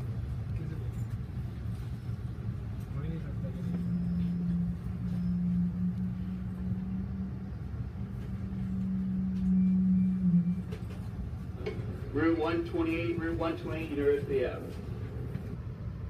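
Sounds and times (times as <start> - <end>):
train low rumble: 0.0 - 16.0
train steady hum: 0.0 - 16.0.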